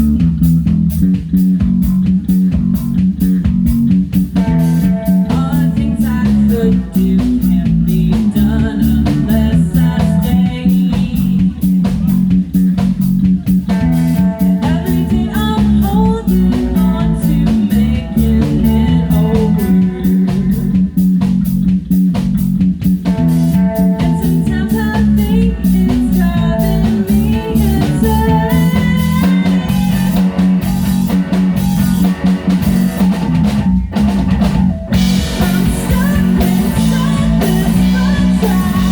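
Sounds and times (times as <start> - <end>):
bass guitar: 0.0 - 38.9
drum kit beat: 0.0 - 38.9
guitars: 0.0 - 38.9.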